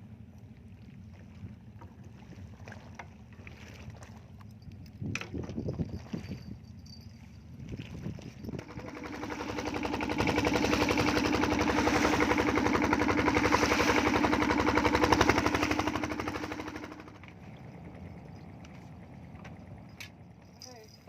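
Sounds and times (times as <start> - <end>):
motorboat engine chugging: 0.0 - 21.0.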